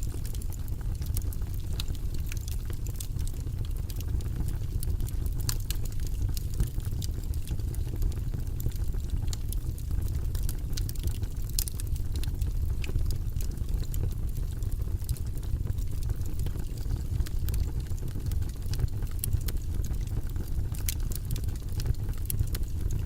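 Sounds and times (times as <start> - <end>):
fire crackling and popping: 0.0 - 23.0
low rumble of flames: 0.0 - 23.0.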